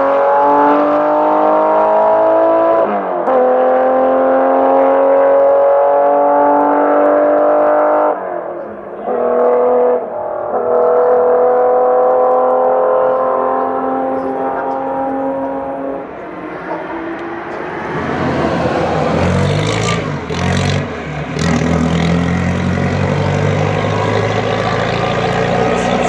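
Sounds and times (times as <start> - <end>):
racing car engines at full throttle: 0.0 - 26.0.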